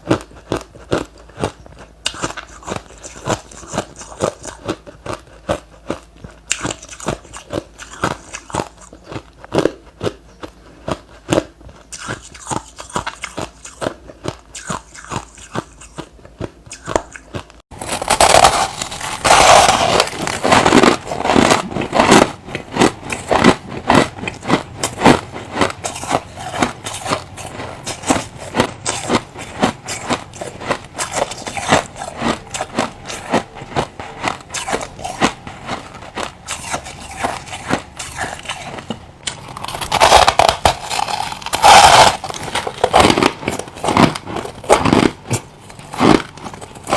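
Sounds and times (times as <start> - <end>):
chewing crushed ice: 0.0 - 46.9.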